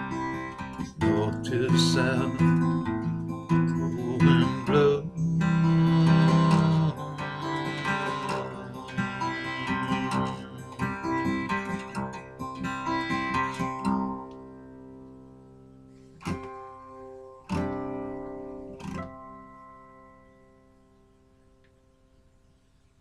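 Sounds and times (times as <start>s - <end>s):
acoustic guitar strumming: 0.0s - 21.6s.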